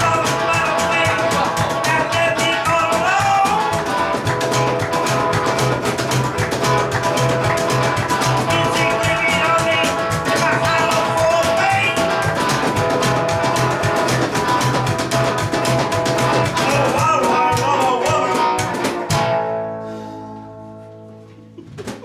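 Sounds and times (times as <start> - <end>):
fast driving drum beat: 0.0 - 19.4
electric guitar strummed: 0.0 - 21.6.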